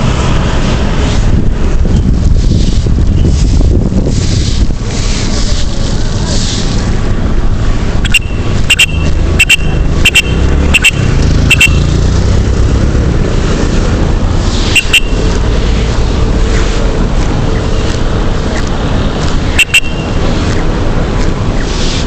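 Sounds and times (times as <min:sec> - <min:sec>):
road and wind rumble: 0:00.0 - 0:22.0.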